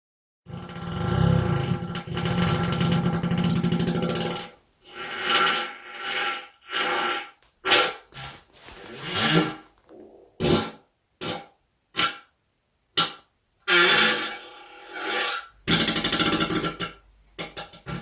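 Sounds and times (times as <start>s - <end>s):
person farting: 0.5s - 12.3s, 13.0s - 18.0s.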